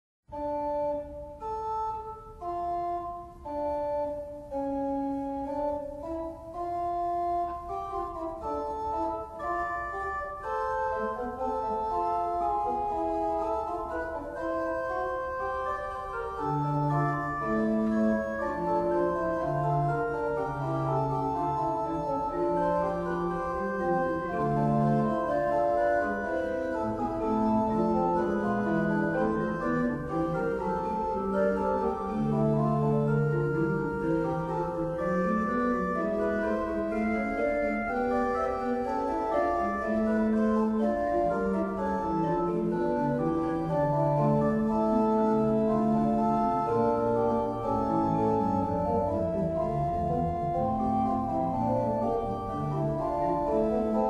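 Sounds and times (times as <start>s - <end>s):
organ music: 0.3s - 54.0s
organ pedal bass line: 0.3s - 54.0s.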